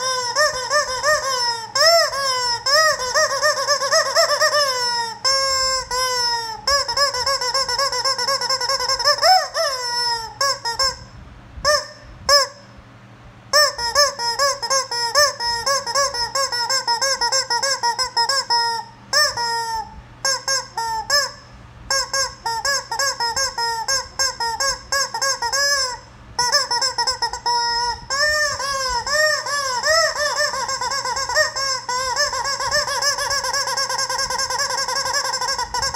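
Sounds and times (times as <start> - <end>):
rubber chicken toy squawking: 0.0 - 12.7, 13.5 - 35.9.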